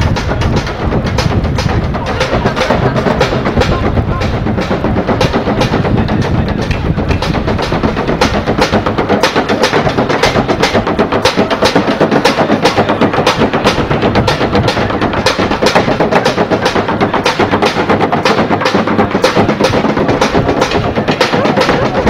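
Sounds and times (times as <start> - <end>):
drumsticks beating buckets and pans: 0.0 - 22.0.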